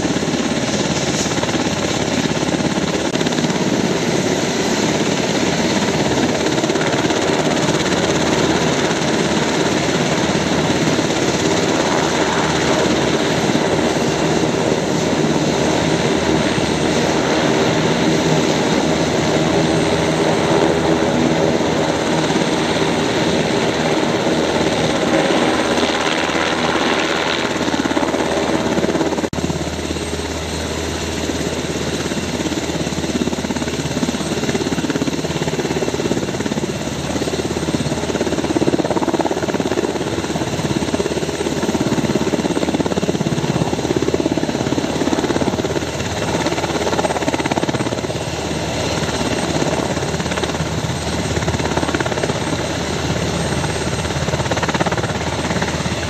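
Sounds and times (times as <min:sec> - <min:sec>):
helicopter engine whine and rotor noise: 0:00.0 - 0:56.0.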